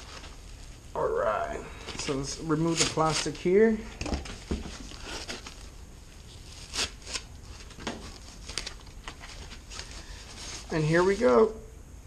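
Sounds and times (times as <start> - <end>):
packaging wrap rustling: 0.0 - 0.8, 1.8 - 11.5.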